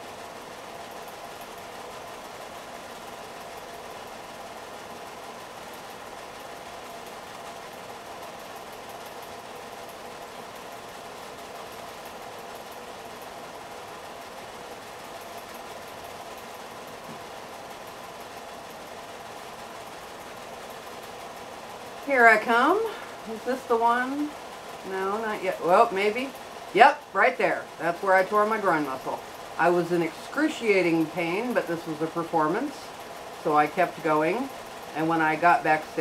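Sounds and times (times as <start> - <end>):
film projector whirring: 0.0 - 36.0.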